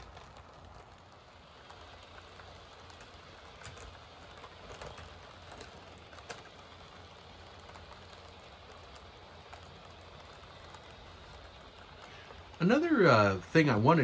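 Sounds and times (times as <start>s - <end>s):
model train rolling hum: 0.0s - 14.0s.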